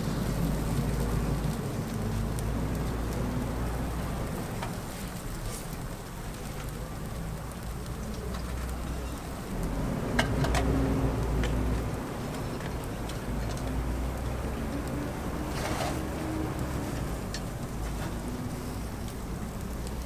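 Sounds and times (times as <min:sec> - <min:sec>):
street background rumble: 0:00.0 - 0:20.0.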